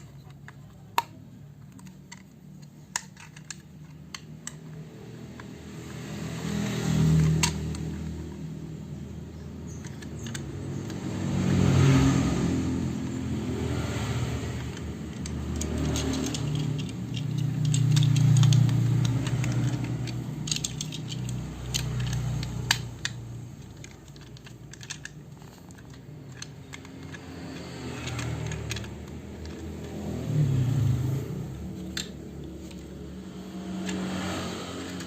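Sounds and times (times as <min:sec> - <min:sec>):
plastic toy parts rattling: 0:00.0 - 0:11.8, 0:12.4 - 0:35.0.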